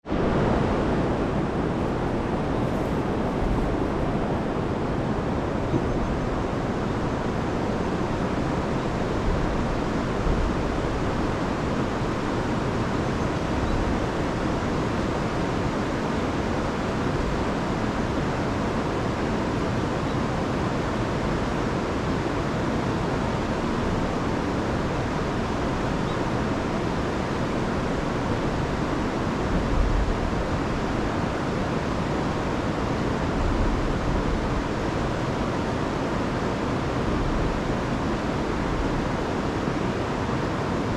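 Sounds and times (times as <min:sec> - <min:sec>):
river rushing over waterfalls: 0:00.1 - 0:40.9.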